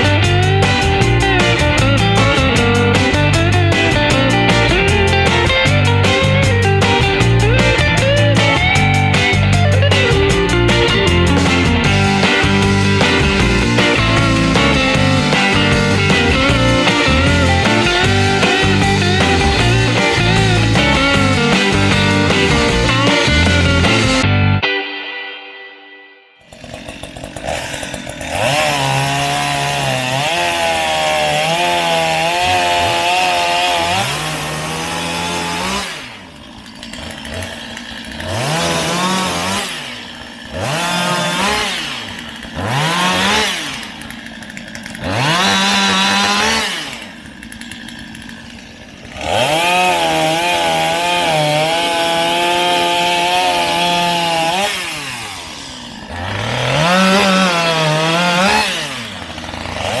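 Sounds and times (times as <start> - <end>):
chainsaw cutting wood: 0.0 - 24.3, 26.4 - 60.0
chainsaw revving: 0.0 - 24.3, 26.4 - 60.0.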